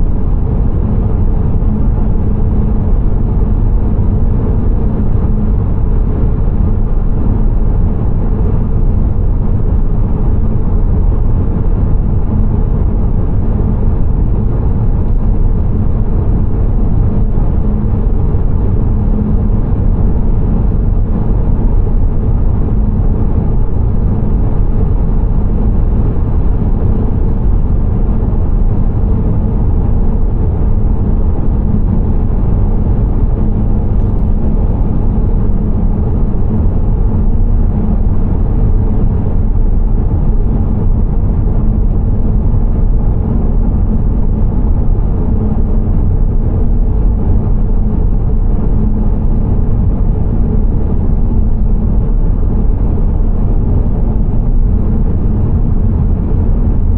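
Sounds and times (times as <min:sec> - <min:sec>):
car driving rumble: 0:00.0 - 0:56.9.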